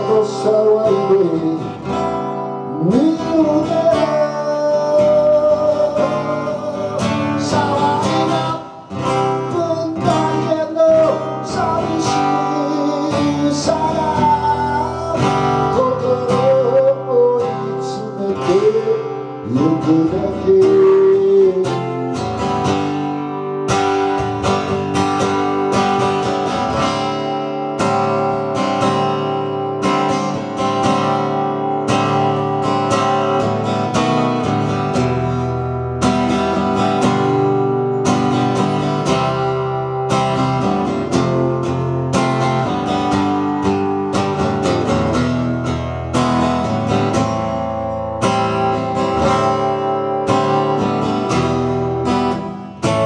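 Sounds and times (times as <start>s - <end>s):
acoustic guitar strumming: 0.0s - 53.0s
person singing folk song: 0.0s - 53.0s.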